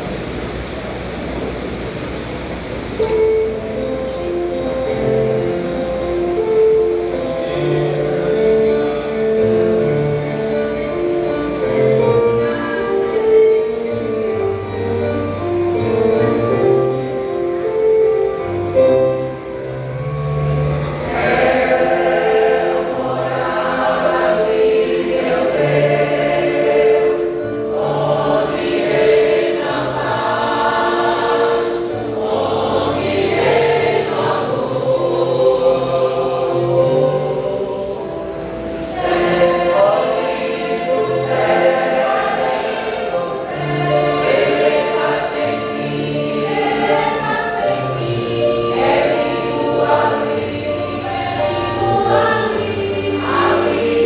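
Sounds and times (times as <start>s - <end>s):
choir singing a hymn: 3.0s - 54.0s.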